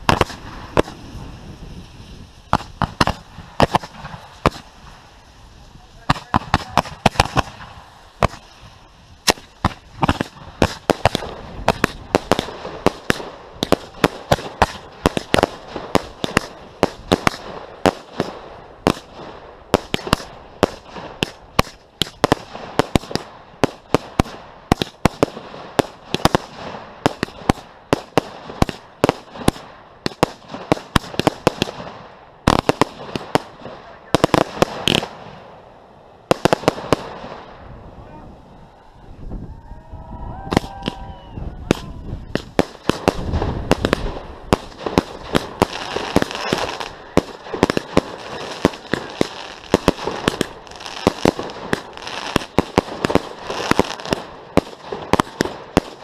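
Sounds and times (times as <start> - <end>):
fireworks banging: 0.0 - 37.9, 40.5 - 56.0.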